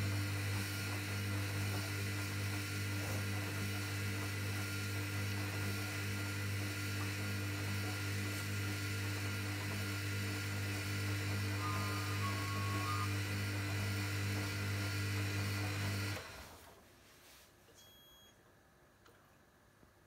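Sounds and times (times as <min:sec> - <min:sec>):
washing machine motor humming: 0:00.0 - 0:16.8.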